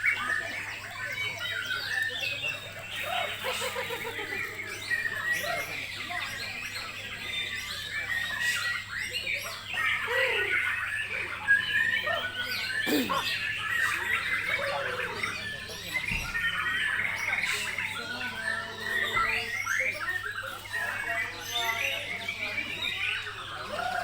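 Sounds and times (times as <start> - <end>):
bird singing whistles and chirps: 4.5 - 24.0.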